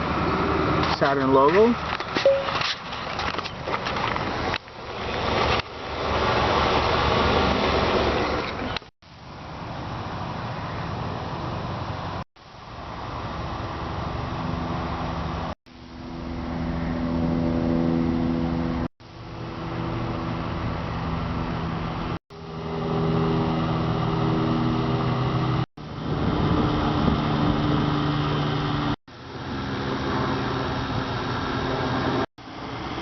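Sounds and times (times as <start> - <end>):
outdoor background noise: 0.0 - 33.0
vehicle engine humming: 0.0 - 33.0.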